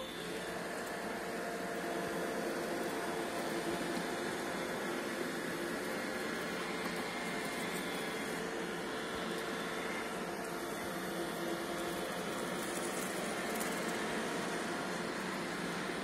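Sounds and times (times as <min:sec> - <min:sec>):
robot vacuums whirring: 0:00.0 - 0:16.0.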